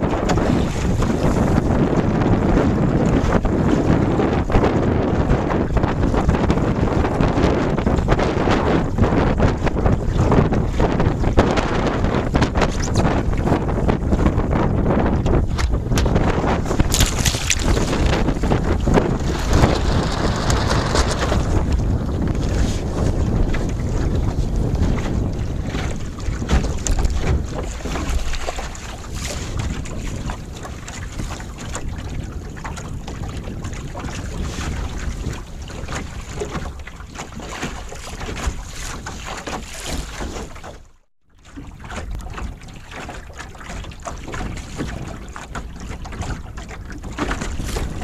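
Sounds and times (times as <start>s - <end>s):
water slapping along hull: 0.0s - 48.0s
wind buffeting microphone: 0.0s - 48.0s.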